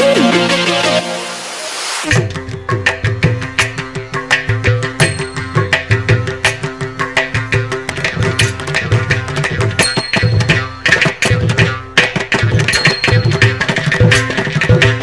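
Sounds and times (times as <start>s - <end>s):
fast hand-drum strokes: 2.0s - 15.0s.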